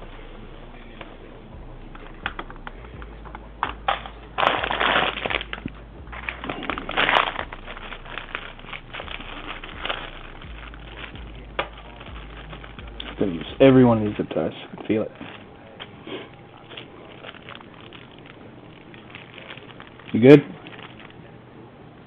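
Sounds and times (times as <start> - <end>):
packaging crinkling: 2.0 - 21.3.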